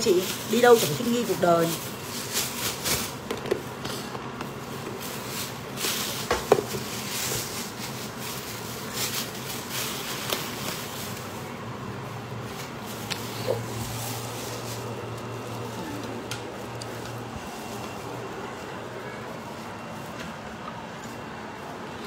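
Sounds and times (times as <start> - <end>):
plastic bag rustling and crinkling: 0.0 - 21.9.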